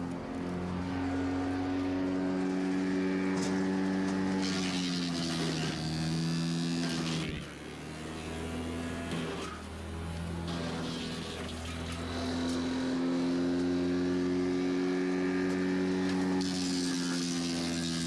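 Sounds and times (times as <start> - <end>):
brush chipper engine running: 0.0 - 18.0.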